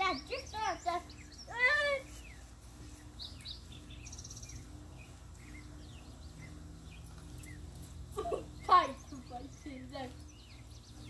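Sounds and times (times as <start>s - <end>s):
low steady background hum: 0.0s - 11.0s.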